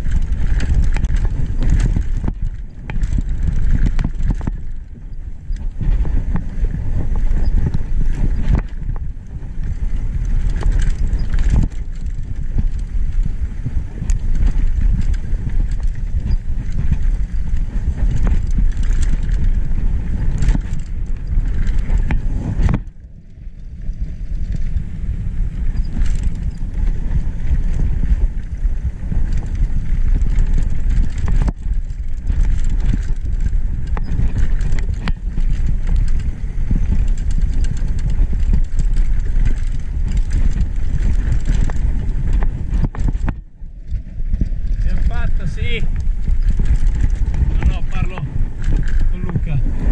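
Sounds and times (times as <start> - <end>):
bike rattling and knocking: 0.0 - 49.9
bike tyres rumbling over dirt: 0.0 - 49.9
wind buffeting microphone: 0.0 - 49.9.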